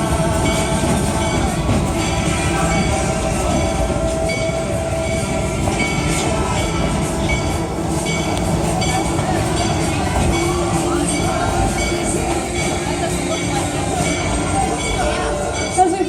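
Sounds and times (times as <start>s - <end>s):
high tones: 0.0s - 16.0s
train wheels rumbling on track: 0.0s - 16.0s.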